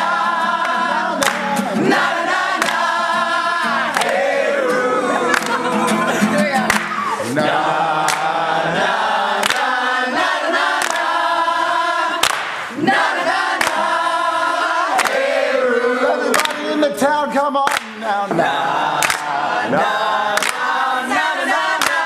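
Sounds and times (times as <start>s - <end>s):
group singing in chorus: 0.0s - 22.0s.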